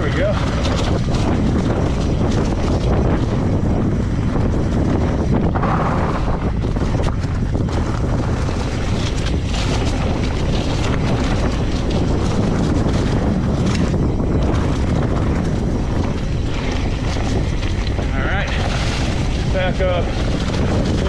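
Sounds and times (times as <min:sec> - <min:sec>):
bike rattling: 0:00.0 - 0:21.0
tyres crackling over dry leaves: 0:00.0 - 0:21.0
wind noise on microphone: 0:00.0 - 0:21.0.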